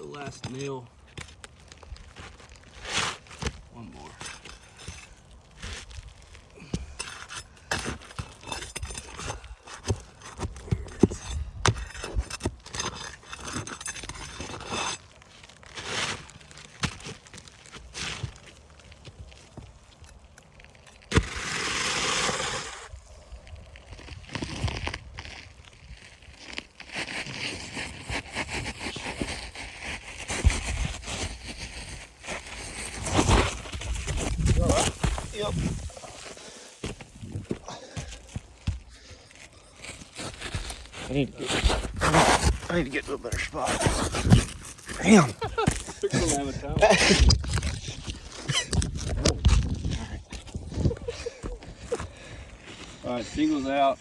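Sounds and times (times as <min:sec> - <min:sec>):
pry bar scraping under shingles: 0:00.0 - 0:23.1, 0:26.4 - 0:54.0.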